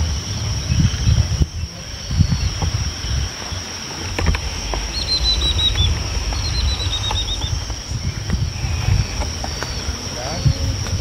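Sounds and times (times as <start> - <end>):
bird chirping: 0.7 - 10.7
steady high whine: 1.7 - 11.0
low rumble: 2.0 - 11.0.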